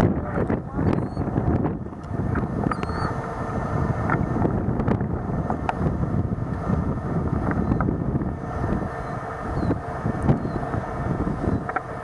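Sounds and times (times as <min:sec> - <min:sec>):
wind blowing over microphone: 0:00.0 - 0:12.0.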